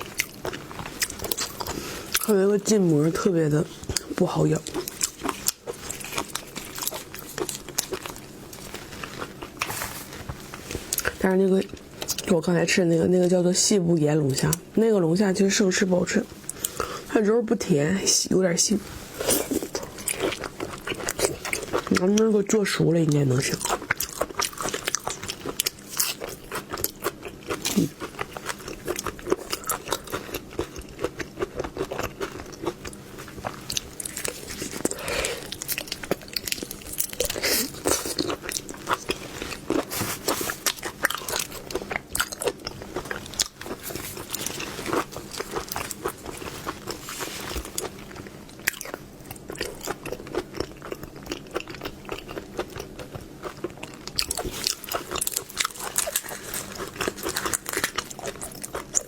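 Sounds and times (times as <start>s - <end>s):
crunching and chewing food: 0.0s - 17.2s, 17.8s - 59.0s.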